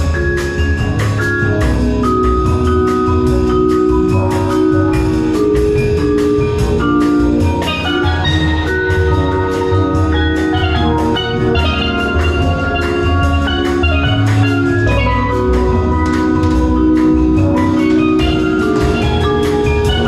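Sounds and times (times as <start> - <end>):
steady drum beat: 0.0 - 20.0
upbeat tune with mallet percussion: 0.0 - 20.0.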